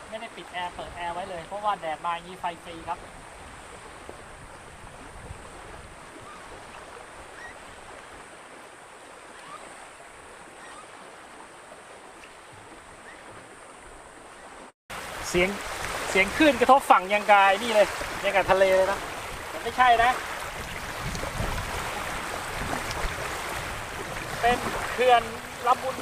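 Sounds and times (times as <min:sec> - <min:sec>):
small waves lapping on shore: 0:00.0 - 0:26.0.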